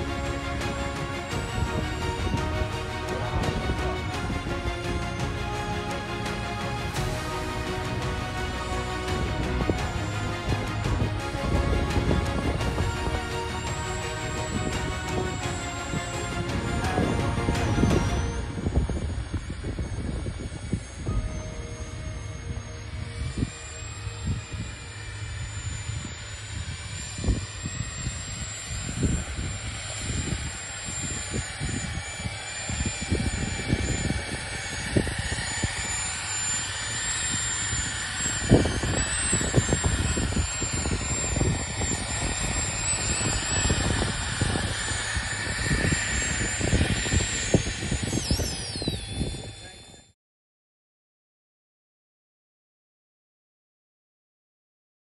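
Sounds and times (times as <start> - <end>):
wind buffeting microphone: 0.0 - 5.5, 6.7 - 50.0
electric ducted fans whining: 0.0 - 50.1.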